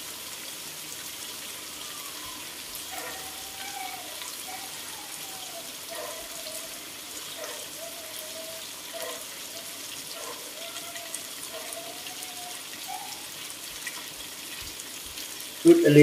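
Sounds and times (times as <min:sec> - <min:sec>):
prawns sizzling in a wok: 0:00.0 - 0:16.0.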